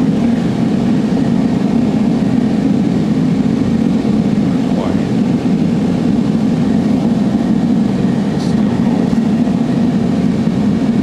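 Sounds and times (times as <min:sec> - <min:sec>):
torch flame roaring: 0:00.0 - 0:11.0.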